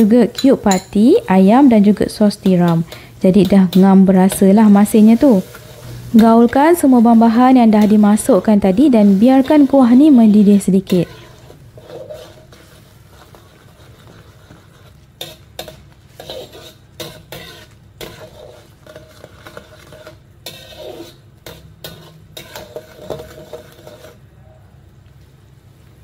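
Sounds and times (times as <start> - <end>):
utensil stirring and scraping pot: 0.0 - 24.4.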